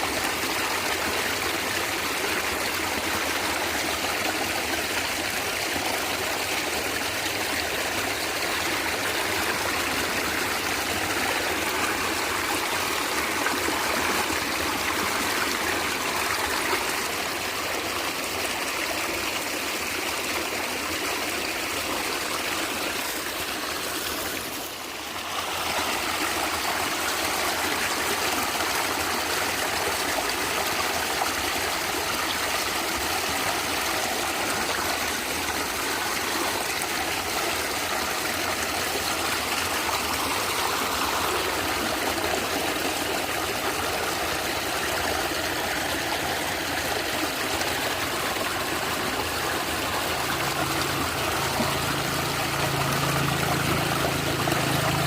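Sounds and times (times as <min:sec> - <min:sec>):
stream of water gurgling: 0:00.0 - 0:55.0.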